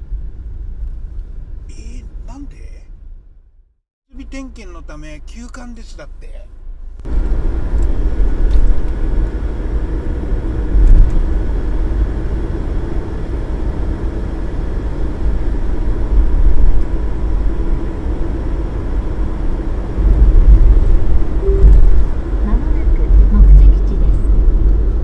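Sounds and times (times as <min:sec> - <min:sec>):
road noise: 0:00.0 - 0:25.0
van engine rumble: 0:00.0 - 0:25.0.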